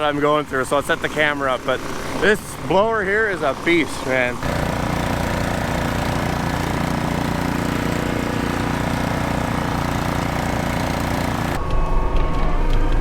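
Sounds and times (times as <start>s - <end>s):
snowblower engine running: 0.0s - 11.6s.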